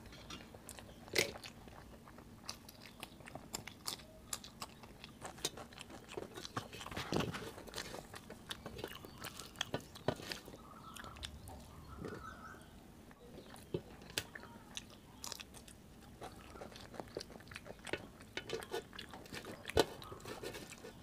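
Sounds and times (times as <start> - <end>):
crisp crunchy chewing: 0.0 - 12.5, 13.1 - 21.0.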